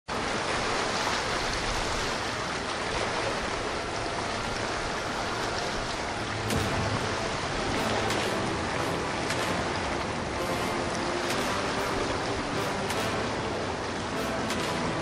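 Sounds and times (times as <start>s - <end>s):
water rushing: 0.1s - 15.0s
boat engine: 2.4s - 15.0s.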